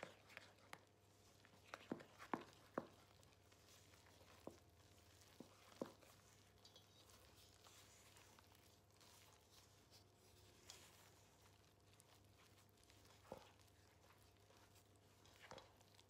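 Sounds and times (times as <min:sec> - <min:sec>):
spoon stirring dough: 0:00.0 - 0:16.0.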